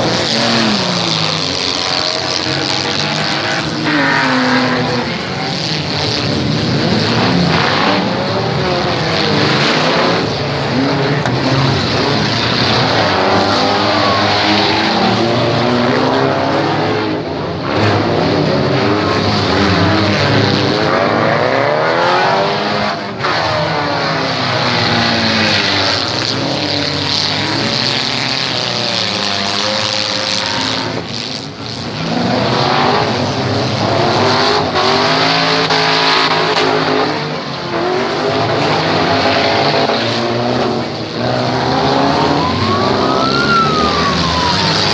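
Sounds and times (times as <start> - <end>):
car engines revving hard: 0.0 - 44.9.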